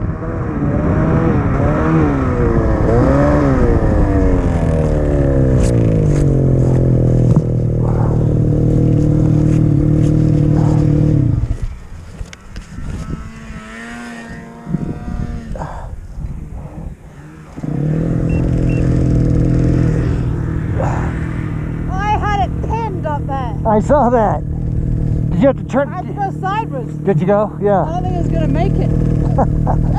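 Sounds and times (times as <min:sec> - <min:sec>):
snowmobile engine revving: 0:00.0 - 0:29.9.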